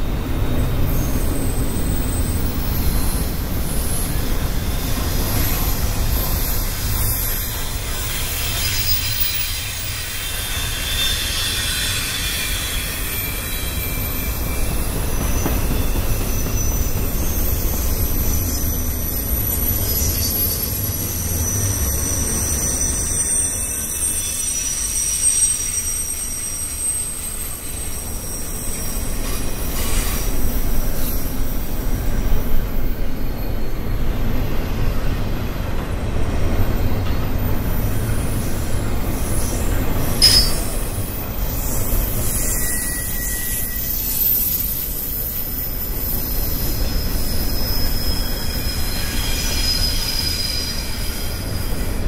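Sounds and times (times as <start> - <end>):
freight train rumbling past: 0.0 - 52.0
high wheel squeal: 0.4 - 35.5, 36.7 - 52.0.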